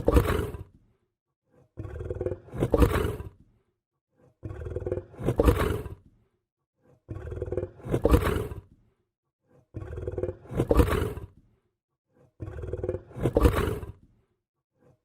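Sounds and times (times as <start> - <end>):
lion growling: 0.0 - 0.8, 1.5 - 6.2, 6.8 - 15.0.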